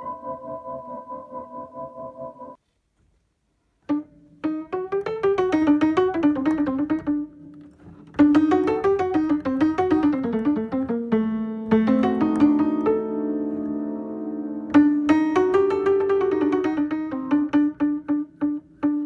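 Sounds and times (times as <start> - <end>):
prepared piano playing: 0.0 - 2.6, 3.8 - 19.0.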